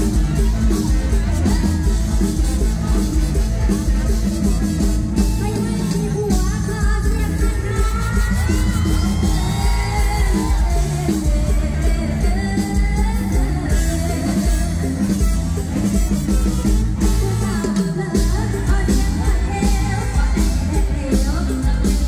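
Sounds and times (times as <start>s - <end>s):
band with drum and bass beat: 0.0s - 22.0s.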